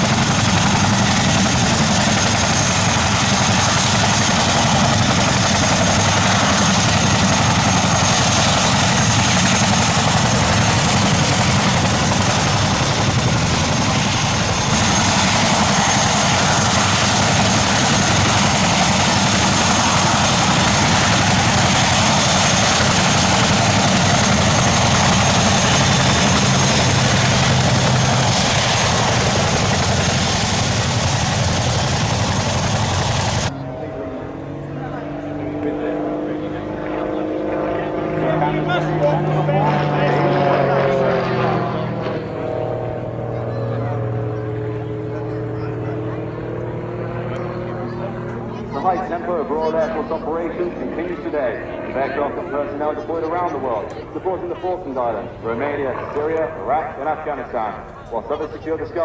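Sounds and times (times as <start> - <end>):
piston aircraft engine running: 0.0 - 59.0
turboprop engine running: 0.0 - 59.0.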